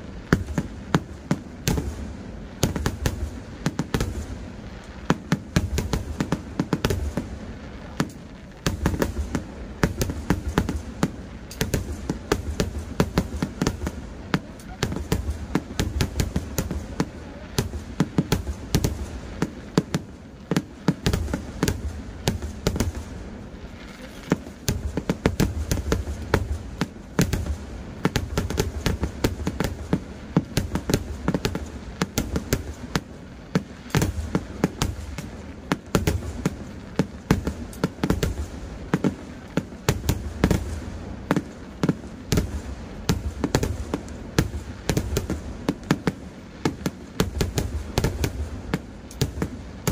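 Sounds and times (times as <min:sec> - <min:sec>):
continuous low rumble: 0:00.0 - 0:49.9
fireworks bangs and crackles: 0:00.0 - 0:49.9.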